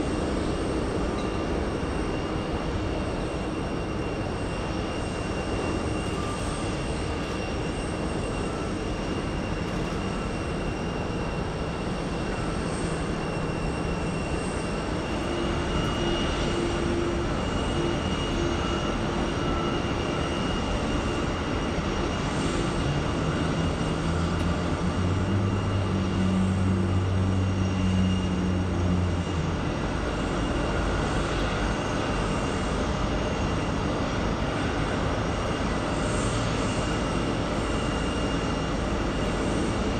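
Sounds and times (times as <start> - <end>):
jet engines idling with whine: 0.0 - 39.9.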